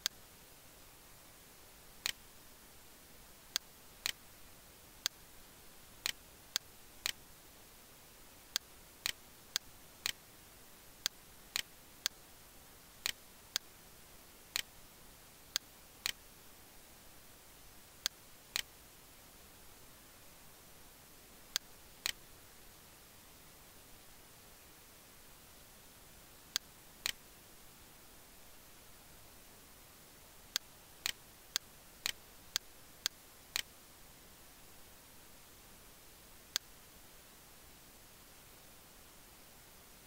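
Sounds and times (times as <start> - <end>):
faint steady hiss: 0.0 - 40.0.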